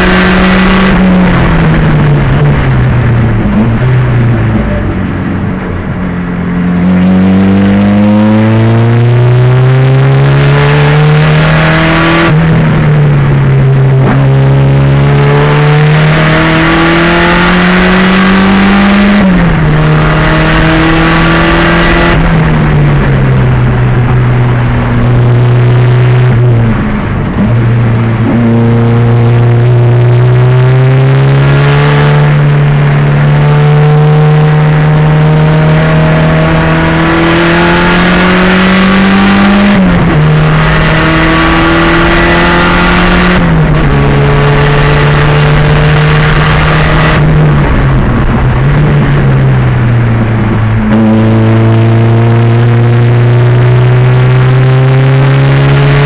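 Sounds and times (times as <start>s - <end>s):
turbo engine revving hard: 0.0s - 4.8s, 6.6s - 56.0s.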